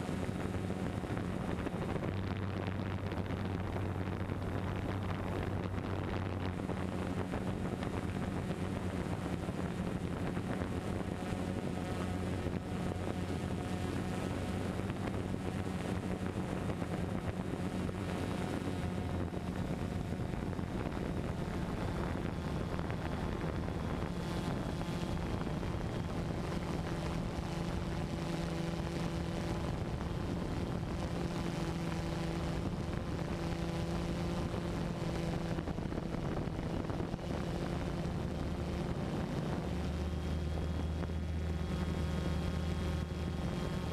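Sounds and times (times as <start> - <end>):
drone motors humming: 0.0 - 43.9
wind rushing over microphone: 0.0 - 43.9.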